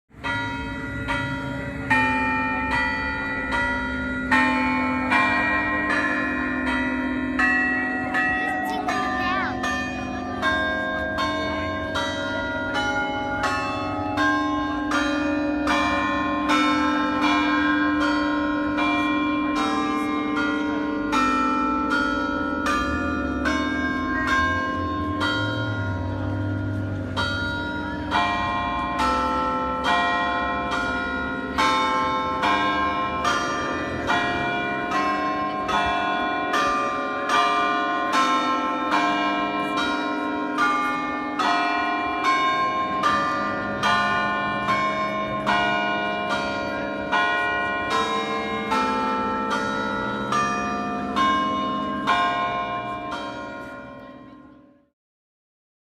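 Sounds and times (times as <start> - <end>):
church bells ringing: 0.1 - 55.0.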